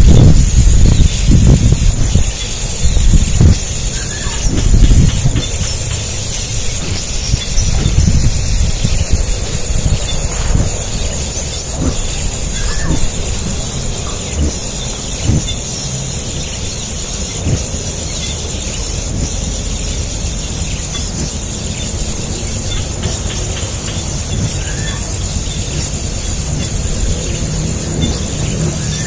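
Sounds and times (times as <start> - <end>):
steady low rumble: 0.0 - 29.0
nestlings begging calls: 0.1 - 29.0.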